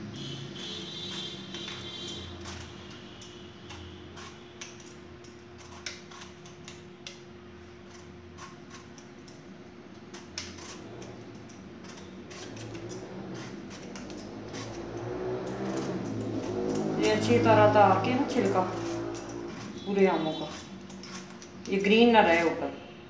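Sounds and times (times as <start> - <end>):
peeler scraping mango skin: 0.0 - 6.9, 7.8 - 9.4, 10.0 - 22.7.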